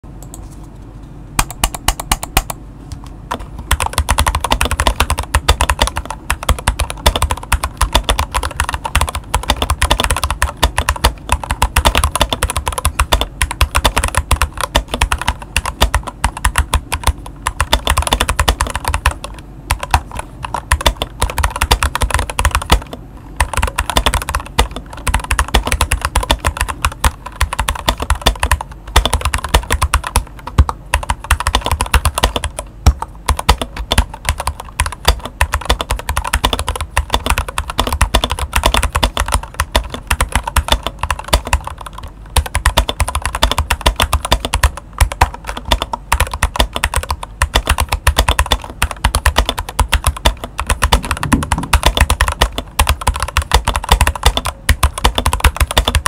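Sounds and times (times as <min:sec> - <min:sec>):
fast mechanical keyboard typing: 0:01.4 - 0:02.6, 0:03.3 - 0:56.0.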